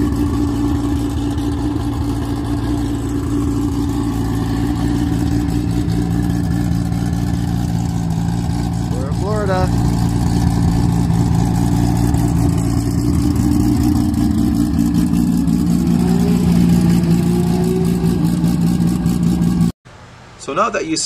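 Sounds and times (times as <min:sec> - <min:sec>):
car engine idling: 0:00.0 - 0:19.8.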